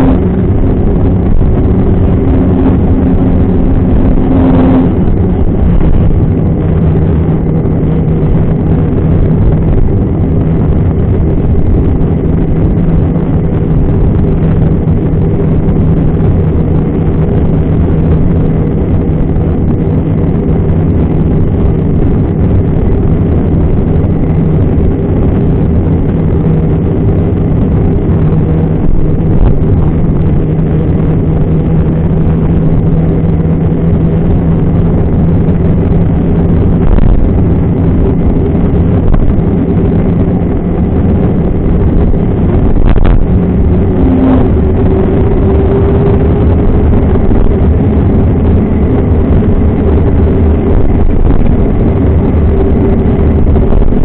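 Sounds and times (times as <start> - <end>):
bicycle tyres rumbling on asphalt: 0.0 - 54.0
wind buffeting camera: 0.0 - 54.0.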